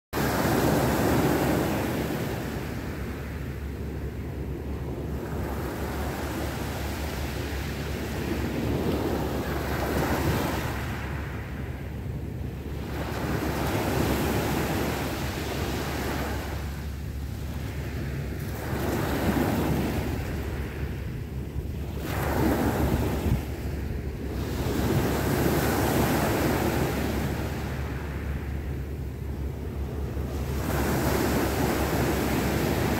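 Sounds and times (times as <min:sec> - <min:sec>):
small waves washing ashore: 0:00.2 - 0:32.9
wind rumble on microphone: 0:00.2 - 0:32.9.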